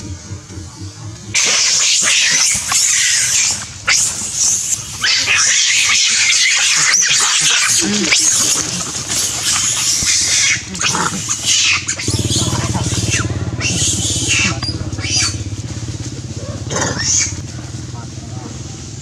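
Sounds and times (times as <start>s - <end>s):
monkeys screeching: 1.3s - 15.6s, 16.4s - 17.7s.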